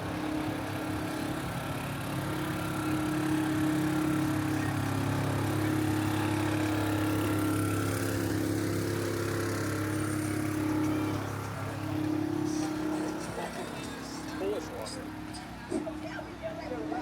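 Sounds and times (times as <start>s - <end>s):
city street noise: 0.0s - 17.0s
engine idling: 0.0s - 17.0s.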